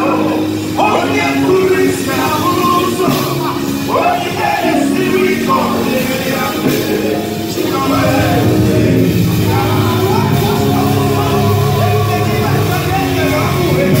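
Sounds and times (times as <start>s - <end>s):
amplified band: 0.0s - 14.0s
backing singers: 0.0s - 14.0s.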